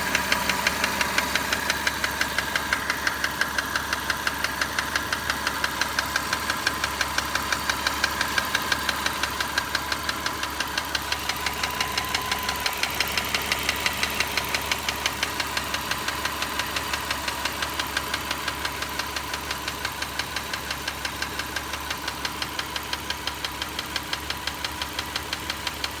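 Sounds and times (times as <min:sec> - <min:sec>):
car engine running: 0:00.0 - 0:26.0
rapid engine ticking: 0:00.0 - 0:26.0.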